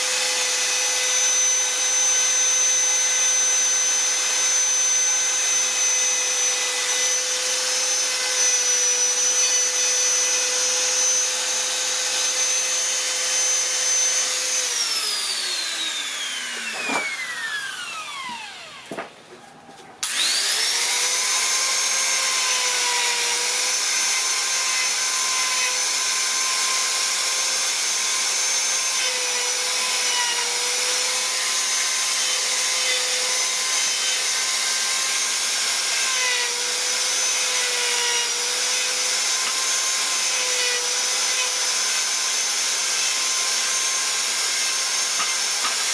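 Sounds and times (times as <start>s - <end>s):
die grinder carving wood: 0.0s - 19.1s, 20.0s - 45.9s.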